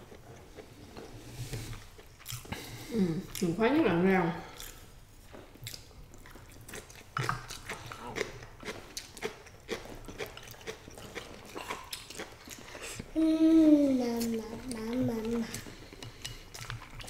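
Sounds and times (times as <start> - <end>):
chewing and slurping: 0.0 - 3.5, 4.6 - 13.2, 13.9 - 17.0.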